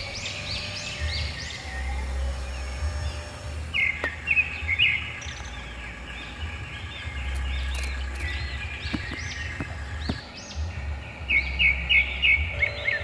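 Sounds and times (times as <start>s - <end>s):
low steady rumble: 0.0s - 13.0s
wild birds chirping: 0.0s - 13.0s.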